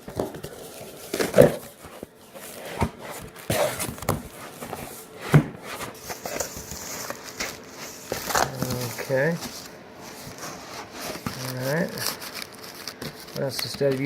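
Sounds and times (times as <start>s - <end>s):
cardboard scraping and rustling: 0.0s - 14.0s.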